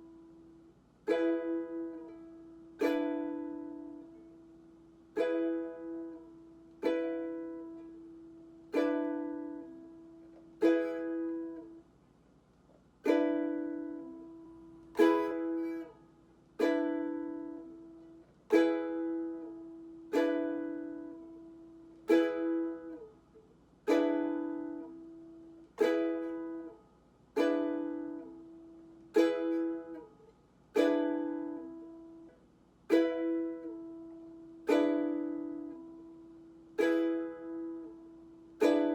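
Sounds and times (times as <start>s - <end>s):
ukulele chords strummed: 0.0s - 11.9s, 12.8s - 38.9s.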